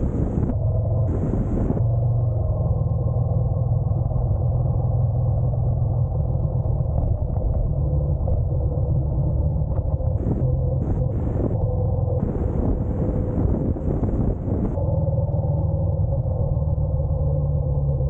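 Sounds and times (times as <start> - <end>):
motorcycle engine rumbling: 0.0 - 18.0
wind hitting microphone: 0.0 - 18.0.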